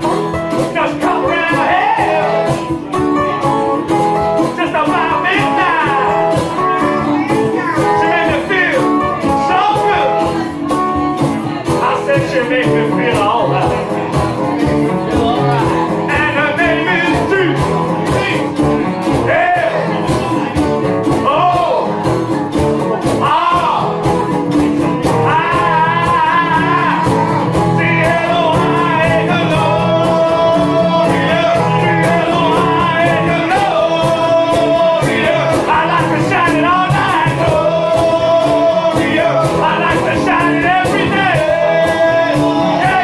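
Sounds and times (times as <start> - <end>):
man singing: 0.0 - 22.2, 23.0 - 43.0
second guitar playing: 0.0 - 43.0
strummed acoustic guitar: 0.0 - 43.0.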